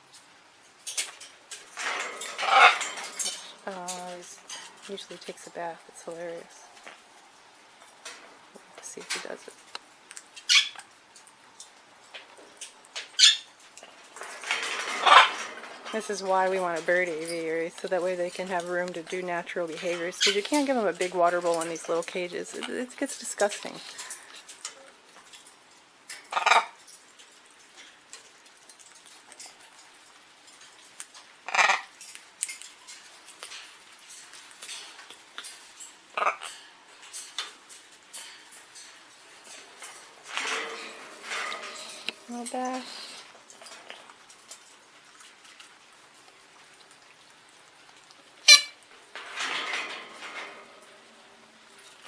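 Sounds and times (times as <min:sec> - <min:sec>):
birds rustling in cage: 0:00.0 - 0:52.0.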